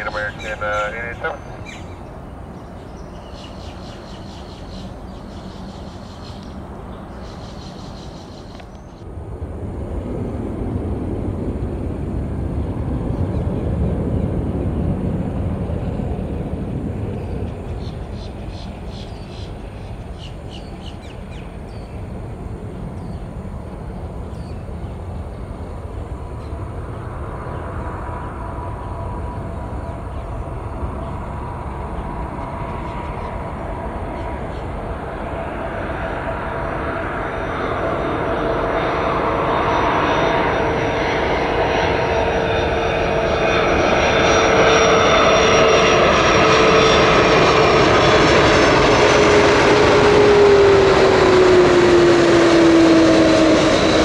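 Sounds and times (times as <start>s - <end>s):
faint steady whine: 0.0s - 43.8s
jet airliner passing: 0.0s - 54.0s.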